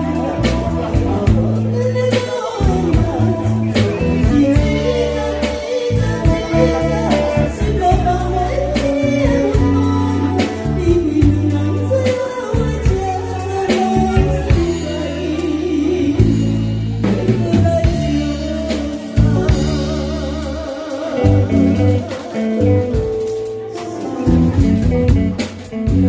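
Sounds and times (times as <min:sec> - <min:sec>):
person singing with vibrato: 0:00.0 - 0:24.6
bass guitar and drums backing: 0:00.0 - 0:26.0.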